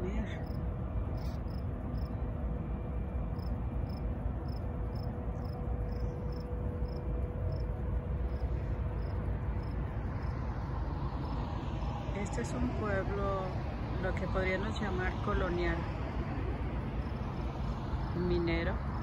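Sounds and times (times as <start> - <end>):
low steady rumble: 0.0 - 19.0
crickets chirping: 0.2 - 13.8, 15.3 - 19.0.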